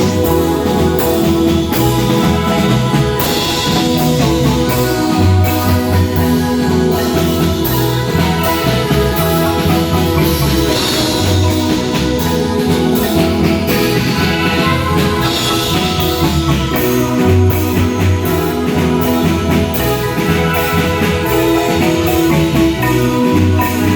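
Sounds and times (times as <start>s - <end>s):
bass line: 0.0s - 23.9s
drum kit: 0.0s - 23.9s
marimba melody: 0.0s - 23.9s.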